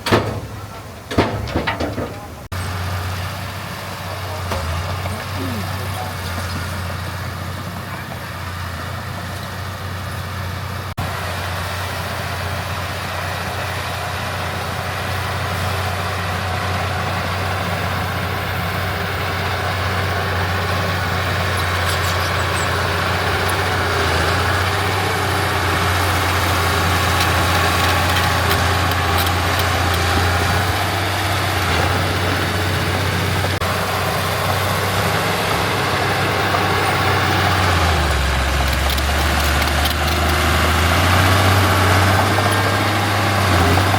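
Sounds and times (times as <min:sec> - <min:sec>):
heavy diesel engine humming: 0:00.0 - 0:43.9.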